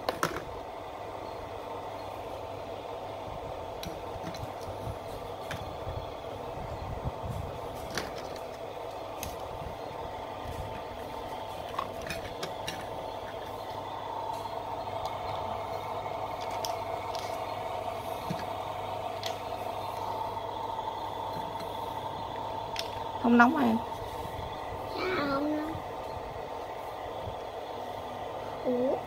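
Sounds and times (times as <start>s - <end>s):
steady whirring hiss: 0.0s - 29.0s.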